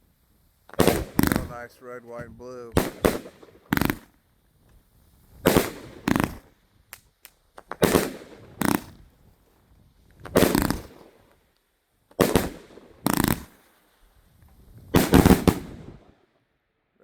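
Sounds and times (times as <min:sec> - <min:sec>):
faint firework pops: 0:00.6 - 0:04.8, 0:05.4 - 0:13.7, 0:14.4 - 0:16.1
firework bangs: 0:00.6 - 0:16.2.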